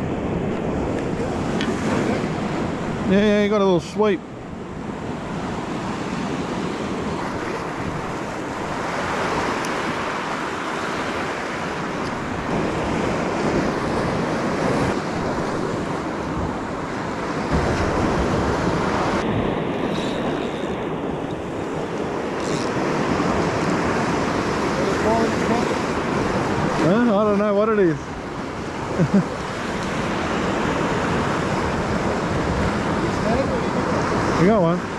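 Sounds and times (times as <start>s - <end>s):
ocean surf breaking on rocks: 0.0s - 34.9s
wind buffeting microphone: 4.4s - 34.9s.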